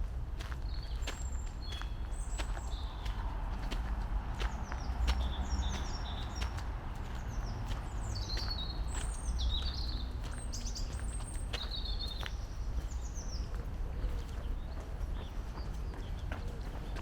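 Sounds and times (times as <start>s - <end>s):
light footsteps on a path: 0.0s - 17.0s
small songbirds chirping: 0.4s - 17.0s.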